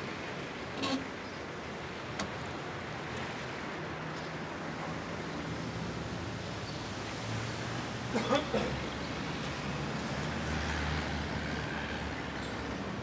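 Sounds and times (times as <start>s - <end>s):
traffic hiss: 0.1s - 13.0s.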